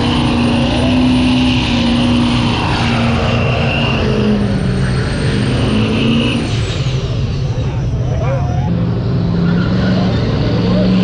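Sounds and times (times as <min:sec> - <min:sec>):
car engine revving high: 0:00.0 - 0:07.8, 0:08.6 - 0:11.0.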